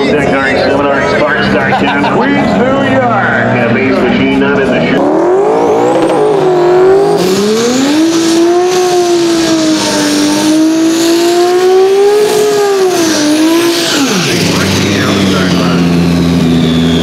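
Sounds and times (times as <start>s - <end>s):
engine at high revs: 0.0s - 17.0s
spinning tyres squealing: 0.3s - 17.0s.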